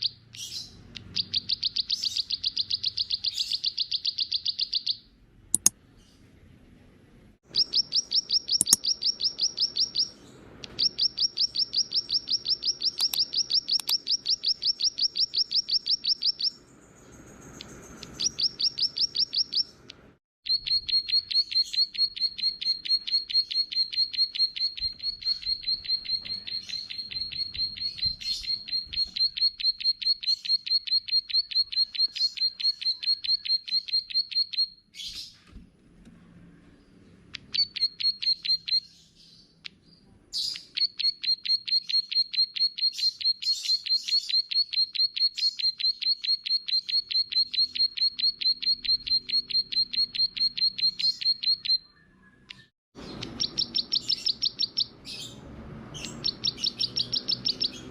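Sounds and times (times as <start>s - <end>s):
songbird rapid high chirps: 0.0s - 6.2s, 7.5s - 35.3s, 37.3s - 57.9s.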